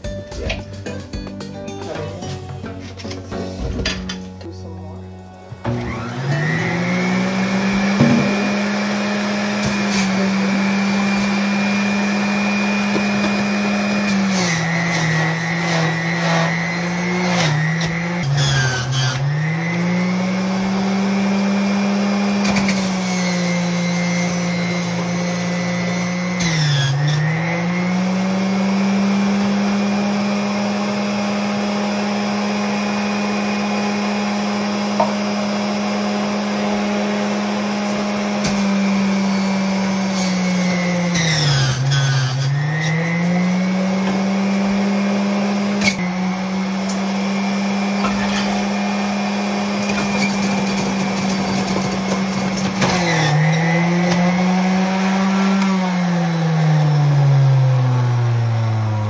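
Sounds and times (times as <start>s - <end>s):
juicer motor whining: 5.2s - 59.0s.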